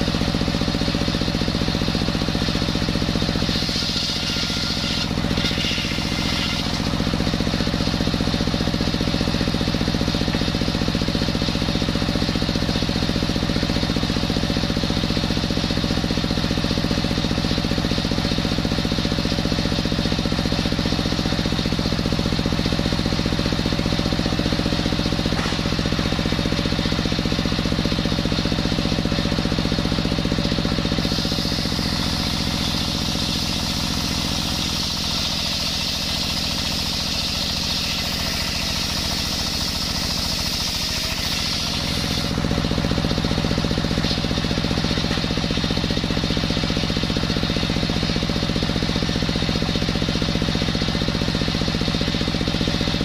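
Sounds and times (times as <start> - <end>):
saw blade whining through wood: 0.0 - 53.0
stationary engine running: 0.0 - 53.0.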